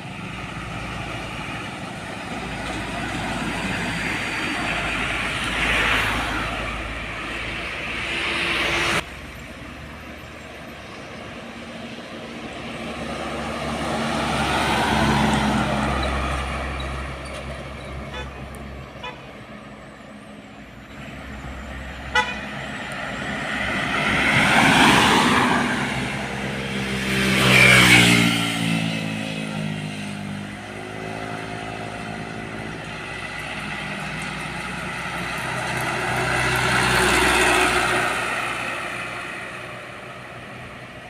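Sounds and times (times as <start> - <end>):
trucks driving past: 0.0 - 41.0.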